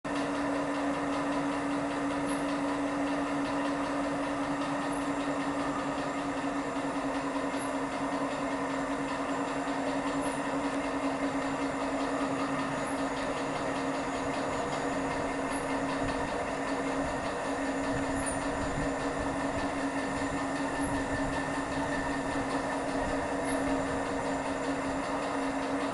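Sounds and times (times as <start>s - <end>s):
fan whirring drone: 0.1s - 25.9s.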